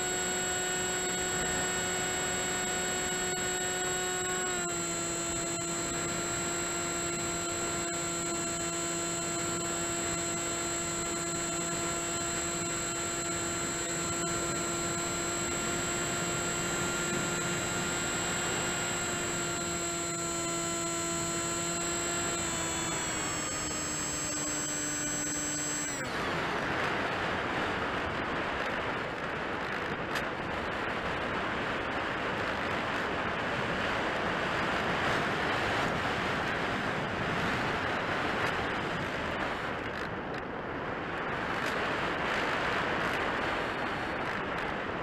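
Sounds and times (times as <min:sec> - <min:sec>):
model plane motor whining: 0:00.0 - 0:40.5, 0:41.3 - 0:45.0.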